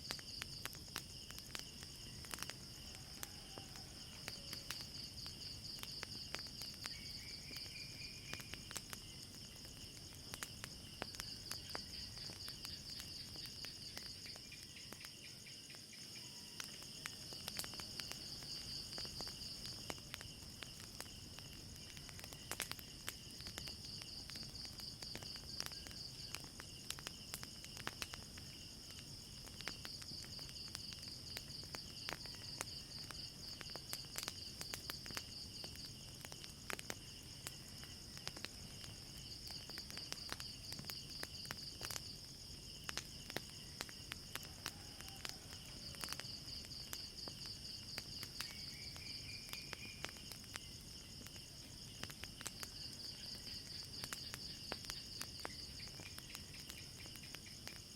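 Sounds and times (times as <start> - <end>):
crickets chirping: 0.0 - 57.9
wood fire crackling and popping: 0.0 - 57.9.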